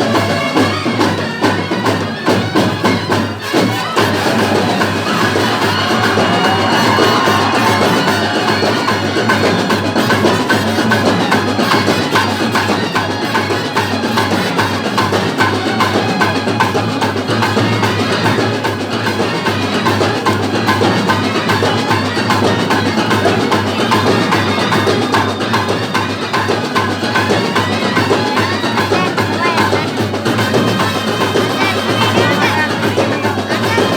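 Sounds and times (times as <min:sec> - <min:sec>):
fast drumming: 0:00.0 - 0:33.9.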